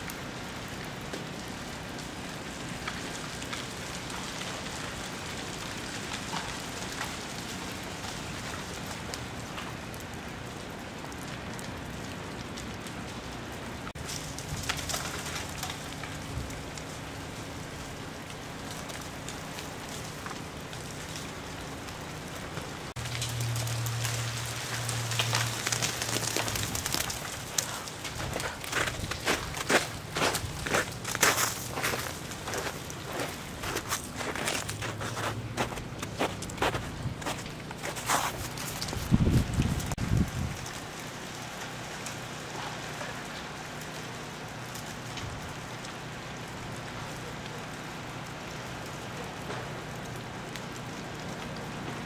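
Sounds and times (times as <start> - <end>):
ice falling from trees: 0.0 - 52.0.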